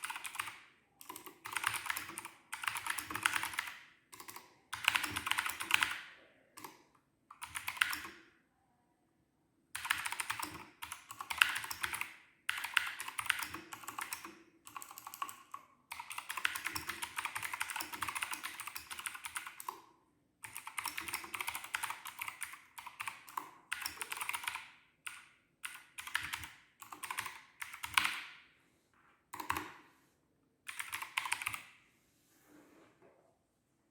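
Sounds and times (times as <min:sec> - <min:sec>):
mechanical keyboard typing: 0:00.0 - 0:08.2, 0:09.8 - 0:19.8, 0:20.4 - 0:28.4, 0:29.4 - 0:29.8, 0:30.7 - 0:31.7.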